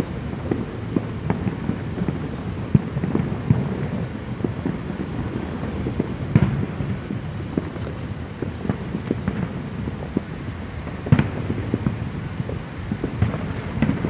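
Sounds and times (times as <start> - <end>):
fireworks booms and pops: 0.0 - 14.0
sharp firework bangs: 0.0 - 14.0.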